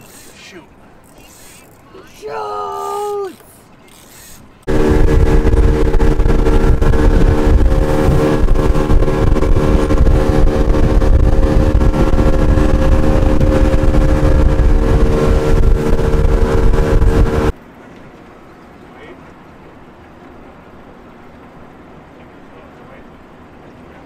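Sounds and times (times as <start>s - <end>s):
outboard motor droning: 0.0s - 24.0s.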